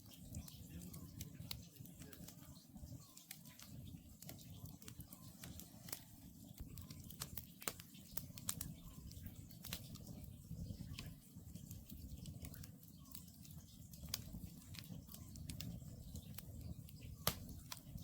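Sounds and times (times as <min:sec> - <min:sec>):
logs crackling and popping: 0:00.0 - 0:18.0
wood campfire burning: 0:00.0 - 0:18.0.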